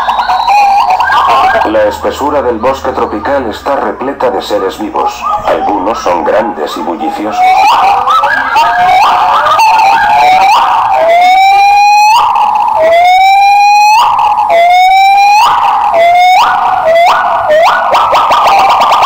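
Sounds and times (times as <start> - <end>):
gibbons whooping: 0.0 - 19.0.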